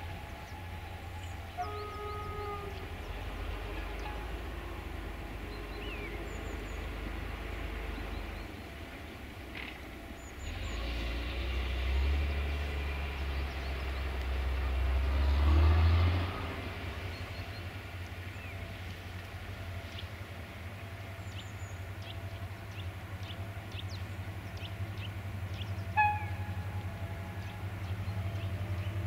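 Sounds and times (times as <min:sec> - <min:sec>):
distant locomotive rumble: 0:00.0 - 0:29.0.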